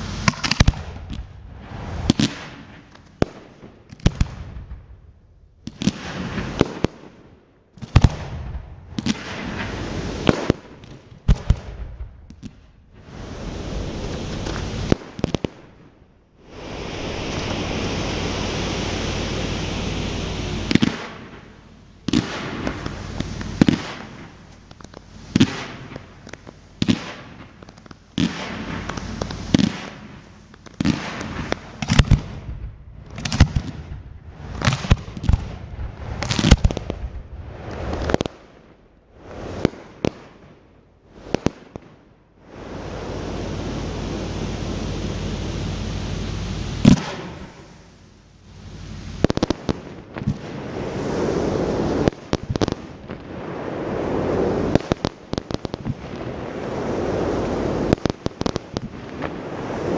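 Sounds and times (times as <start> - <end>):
firework rushing noise: 0.0 - 7.2, 7.8 - 40.4, 42.4 - 59.9
firework bangs: 0.0 - 59.9
firework crack: 0.0 - 59.9.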